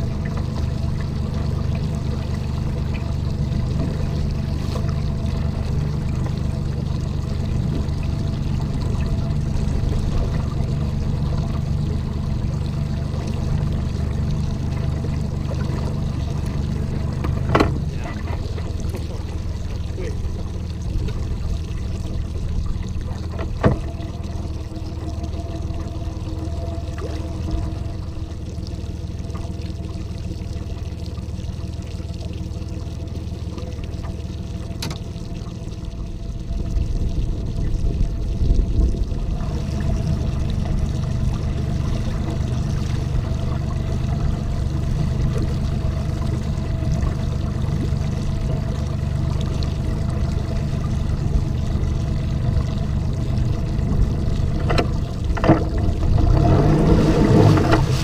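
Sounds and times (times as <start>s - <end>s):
low motor hum: 0.0s - 58.0s
water lapping against hull: 0.0s - 58.0s.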